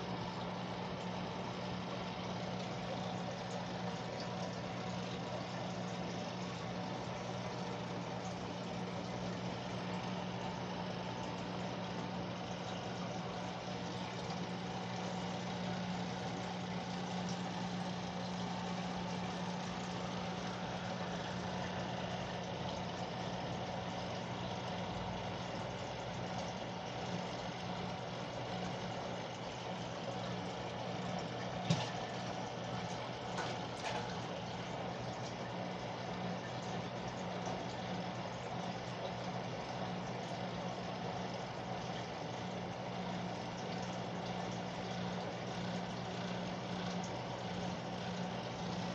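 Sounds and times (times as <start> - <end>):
aquarium pump humming: 0.0 - 48.9.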